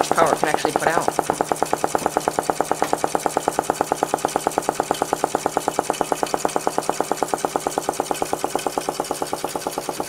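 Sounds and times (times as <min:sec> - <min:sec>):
stirling engine rapid clacking: 0:00.0 - 0:10.0.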